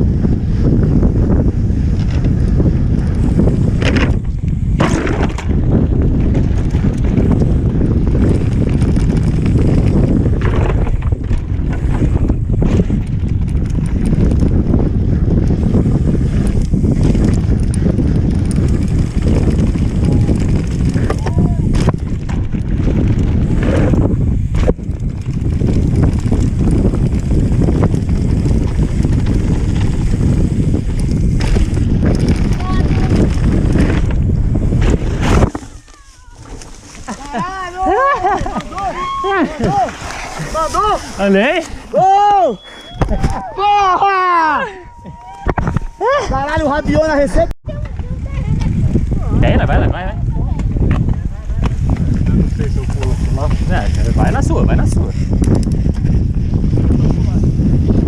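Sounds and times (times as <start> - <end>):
bike tyre and frame rattle: 0.0 - 58.0
wind buffeting microphone: 0.0 - 58.0.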